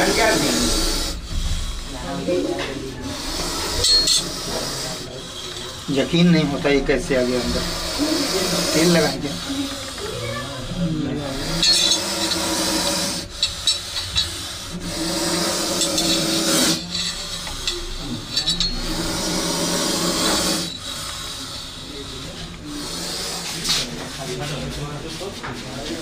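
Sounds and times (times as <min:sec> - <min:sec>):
cobra hissing: 0:00.0 - 0:25.3.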